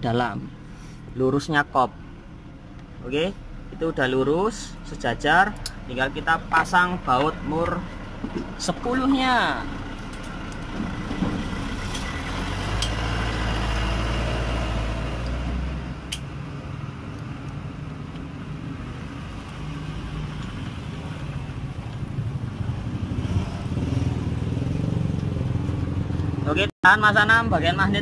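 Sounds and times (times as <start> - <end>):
engine running low rumble: 0.0 - 28.0.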